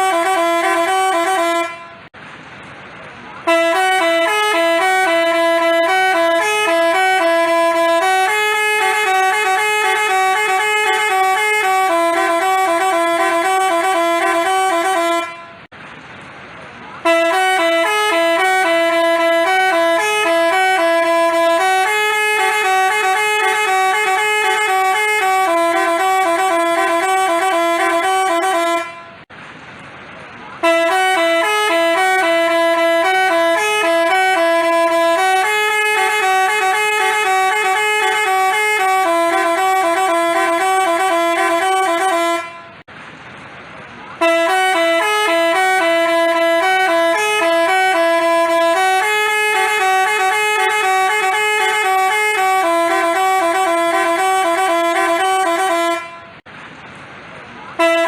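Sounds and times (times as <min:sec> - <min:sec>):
bus horn playing a melody: 0:00.0 - 0:02.2, 0:03.3 - 0:15.7, 0:17.0 - 0:29.3, 0:30.6 - 0:42.9, 0:44.2 - 0:56.5, 0:57.7 - 0:58.0.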